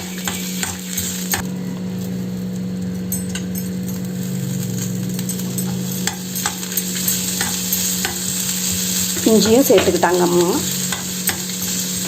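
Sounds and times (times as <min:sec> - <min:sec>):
spices sauteing in oil: 0:00.0 - 0:12.0.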